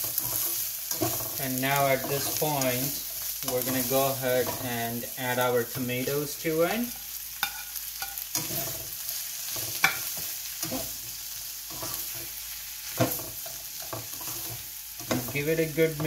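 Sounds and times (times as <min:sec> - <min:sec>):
spatula scraping and tapping pan: 0:00.0 - 0:04.9, 0:06.9 - 0:16.0
vegetables sizzling in a frying pan: 0:00.0 - 0:16.0.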